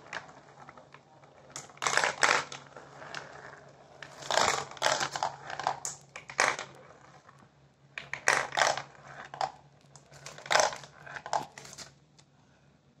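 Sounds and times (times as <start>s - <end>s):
marbles clattering through plastic track: 0.0s - 7.4s, 8.0s - 11.9s.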